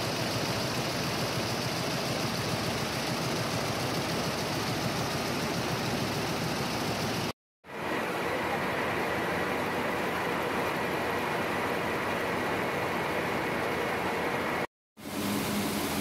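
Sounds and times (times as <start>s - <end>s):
textile machine running: 0.0s - 16.0s.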